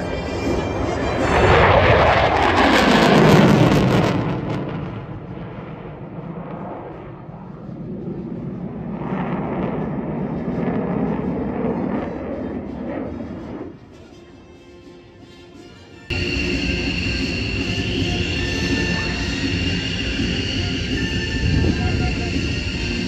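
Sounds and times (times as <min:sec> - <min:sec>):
fighter jet passing overhead: 0:00.0 - 0:13.9, 0:16.1 - 0:23.0
jet engine rumble: 0:00.0 - 0:14.0, 0:16.1 - 0:23.0.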